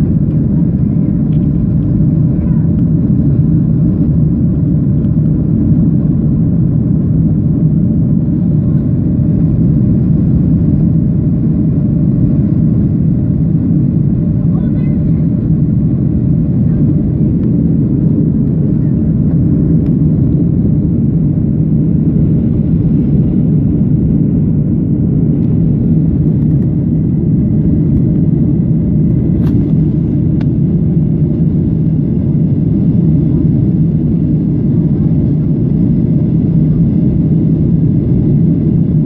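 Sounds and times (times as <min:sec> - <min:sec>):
airflow through fuselage: 0:00.0 - 0:39.0
jet engine cabin rumble: 0:00.0 - 0:39.0.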